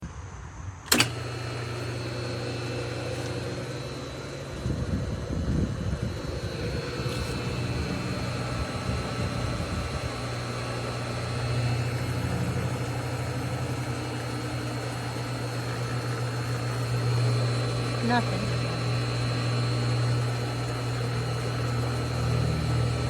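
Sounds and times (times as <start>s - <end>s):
pool pump motor humming: 0.9s - 23.0s.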